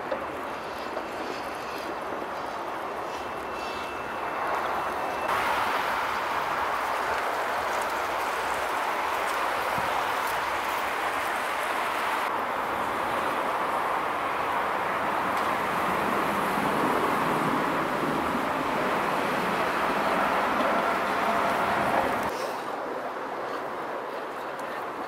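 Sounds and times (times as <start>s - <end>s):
city street traffic hum: 0.0s - 25.0s.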